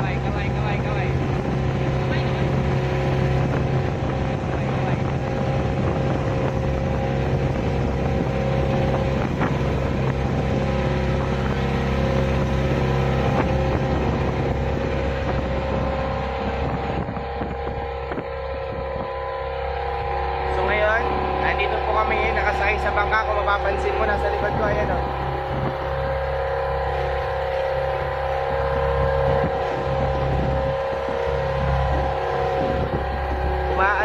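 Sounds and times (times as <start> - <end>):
boat engine running: 0.0 - 34.0
wind buffeting microphone: 0.0 - 34.0.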